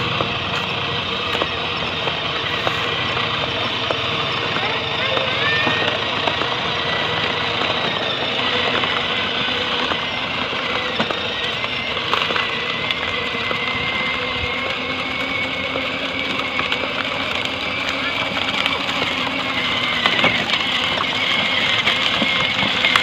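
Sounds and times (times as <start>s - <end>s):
engine-like chugging: 0.0s - 23.0s
toy tractor high whine: 0.0s - 23.0s.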